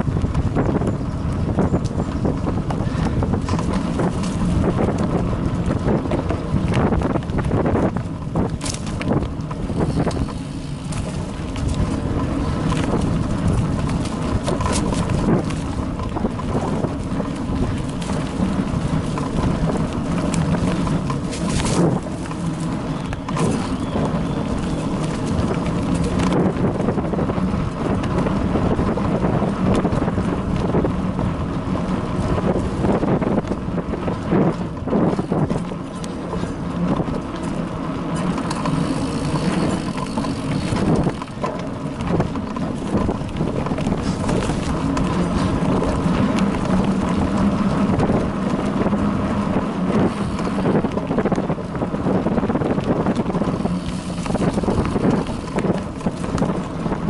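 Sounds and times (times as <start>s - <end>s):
bicycle tyres rumbling on dirt: 0.0s - 57.0s
wind buffeting microphone: 0.0s - 57.0s.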